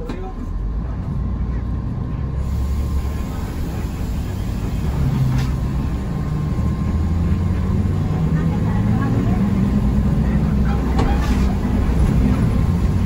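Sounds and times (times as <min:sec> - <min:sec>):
bus engine rumbling: 0:00.0 - 0:13.0
road noise: 0:00.0 - 0:13.0.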